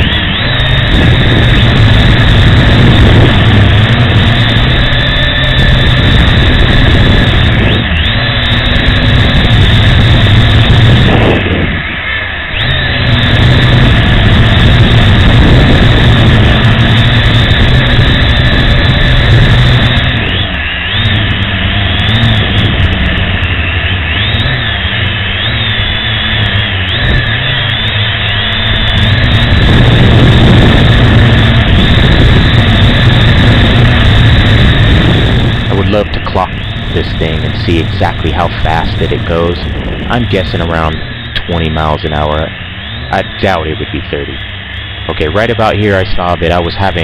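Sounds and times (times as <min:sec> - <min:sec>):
drone propellers whirring: 0:00.0 - 0:47.0.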